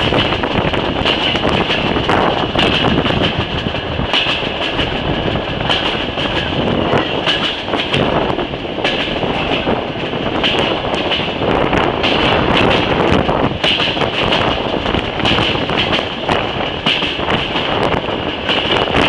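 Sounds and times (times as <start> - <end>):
clicks of train wheels: 0.0 - 19.0
train wheels rumbling on rails: 0.0 - 19.0.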